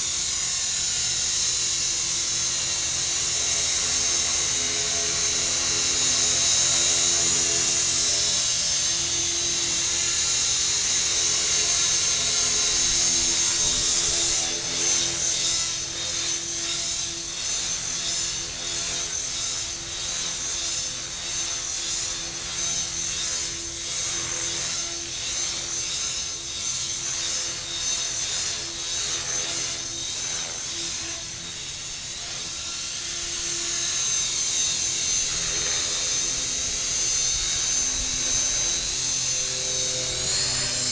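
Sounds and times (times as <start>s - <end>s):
electric motor whine: 0.0s - 40.9s
rotor blades whirring: 0.0s - 40.9s.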